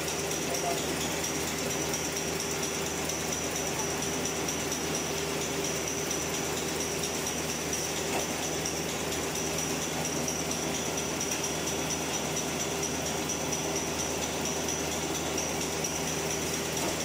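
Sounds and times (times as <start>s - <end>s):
machine whining and humming: 0.0s - 17.0s.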